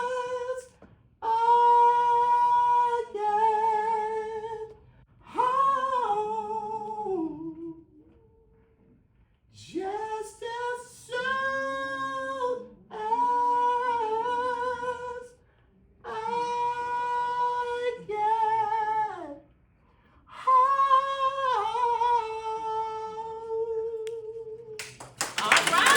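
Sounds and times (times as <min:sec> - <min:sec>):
woman singing unaccompanied: 0:00.0 - 0:08.0, 0:09.6 - 0:15.4, 0:16.0 - 0:19.5, 0:20.3 - 0:24.8.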